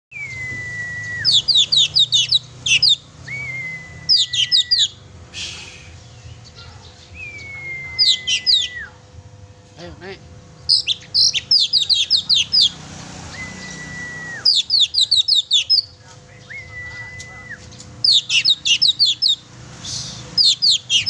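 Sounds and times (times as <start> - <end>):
magpie-robin singing: 0.2 - 5.0, 5.9 - 9.0, 10.6 - 21.0.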